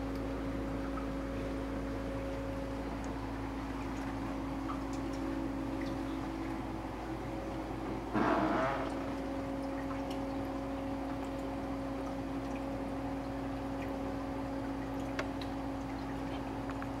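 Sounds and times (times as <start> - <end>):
low pump hum: 0.0 - 17.0
water trickling and splashing: 2.1 - 17.0.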